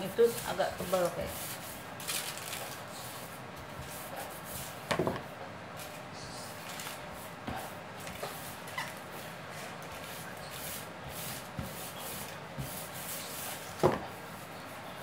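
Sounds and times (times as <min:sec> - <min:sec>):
baking paper rubbing and scraping: 0:00.0 - 0:15.0.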